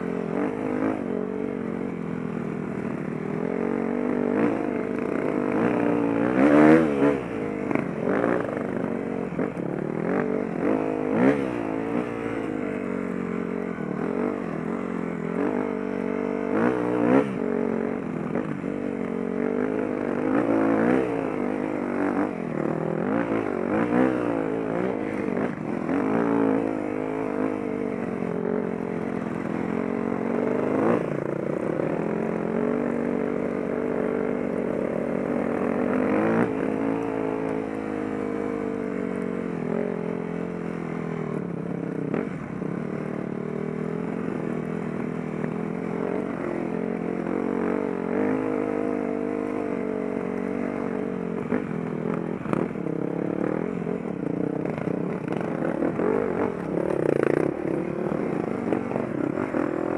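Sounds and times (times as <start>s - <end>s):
dirt bike engine revving: 3.3s - 12.9s, 13.8s - 38.9s, 43.7s - 59.9s.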